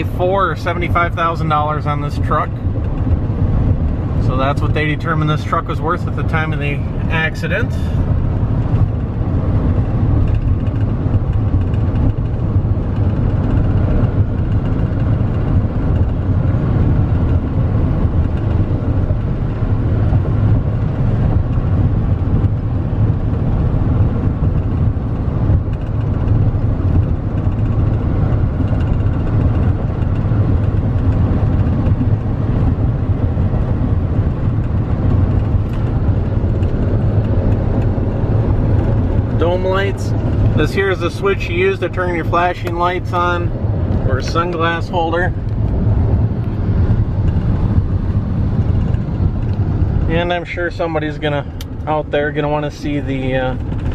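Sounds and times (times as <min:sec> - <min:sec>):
diesel engine low drone: 0:00.0 - 0:53.9
road and tyre noise: 0:00.0 - 0:53.9.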